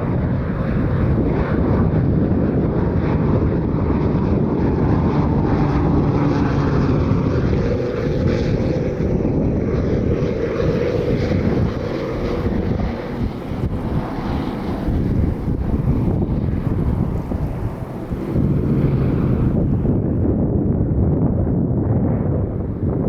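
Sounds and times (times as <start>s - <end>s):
propeller engines droning: 0.0s - 23.0s
wind buffeting microphone: 0.0s - 23.0s.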